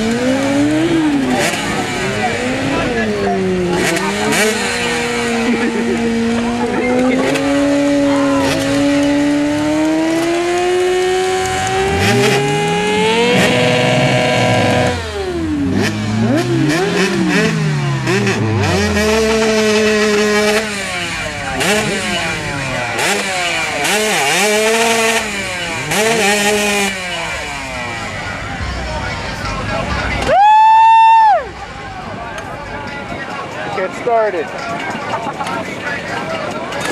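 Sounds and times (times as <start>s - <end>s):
motorcycle engine revving: 0.0s - 32.7s
motorcycles passing: 0.0s - 36.9s.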